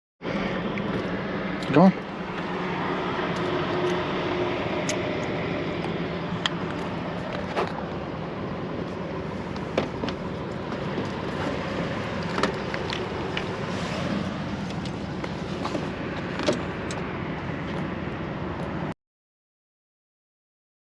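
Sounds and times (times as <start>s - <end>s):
vehicle engine and road noise: 0.2s - 19.0s.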